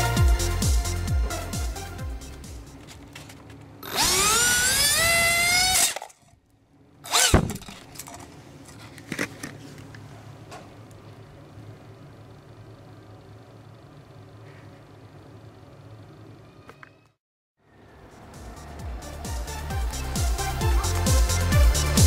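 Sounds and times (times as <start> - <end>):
electric fan high whine: 0.0 - 22.0.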